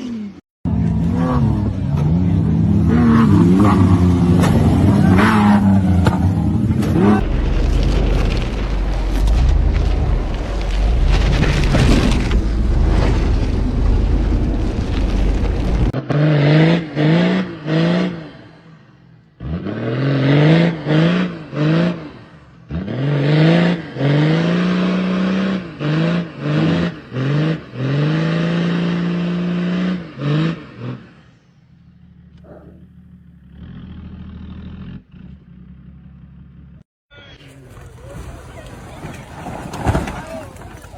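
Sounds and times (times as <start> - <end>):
engine revving in blips: 0.0 - 18.6, 19.2 - 36.8.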